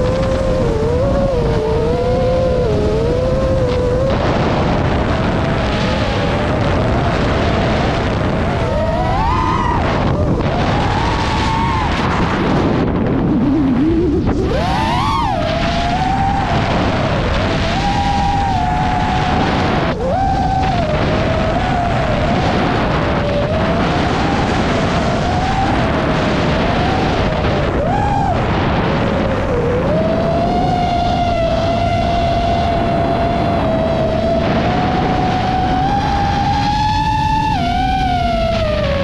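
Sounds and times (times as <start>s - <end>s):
drone motors whining: 0.0s - 39.0s
heavy wind rush: 0.0s - 39.0s.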